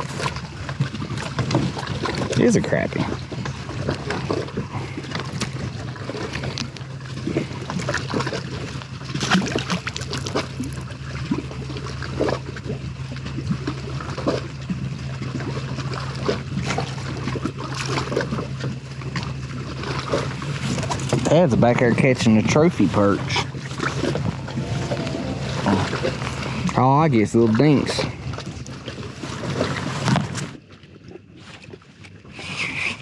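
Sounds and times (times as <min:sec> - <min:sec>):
steady low hum: 0:00.0 - 0:31.3
water trickling and splashing: 0:00.0 - 0:33.0.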